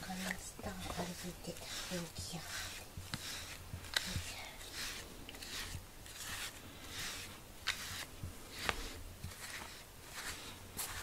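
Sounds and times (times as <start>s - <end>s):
brush swishing through fur: 0.0s - 11.0s.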